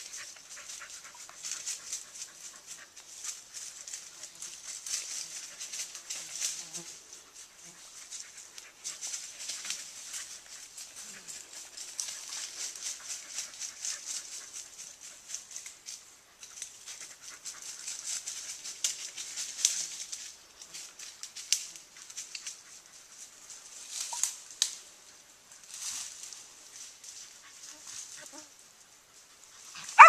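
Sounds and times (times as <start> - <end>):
leaves and brush rustling: 0.0 - 30.0.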